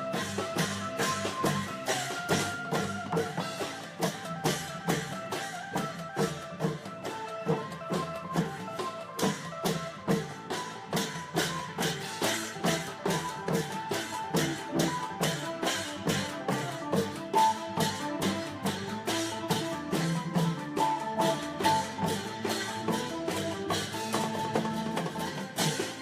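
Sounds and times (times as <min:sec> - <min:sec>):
drum ensemble playing fast rhythm: 0:00.0 - 0:26.0.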